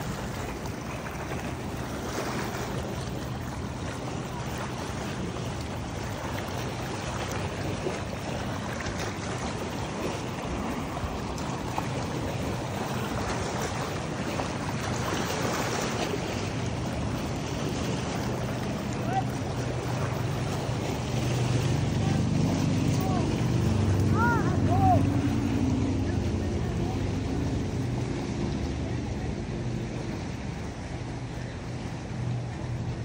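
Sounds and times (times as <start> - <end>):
distant motorboat hum: 0.0 - 33.0
water lapping on rocks: 0.0 - 33.0.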